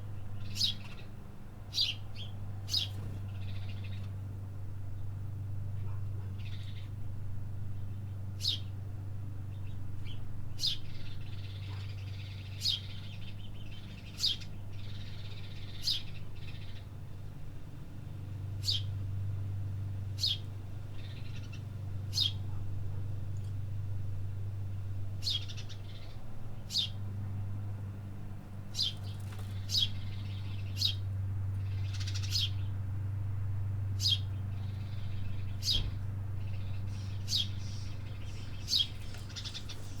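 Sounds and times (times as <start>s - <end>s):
birds twittering: 0.0s - 4.3s, 5.8s - 7.0s, 9.5s - 22.9s, 24.4s - 27.2s, 28.6s - 33.0s, 33.9s - 40.0s
steady low hum: 0.0s - 40.0s.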